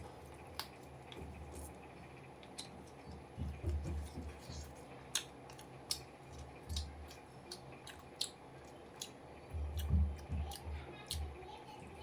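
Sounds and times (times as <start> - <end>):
person chewing food: 0.0 - 11.3.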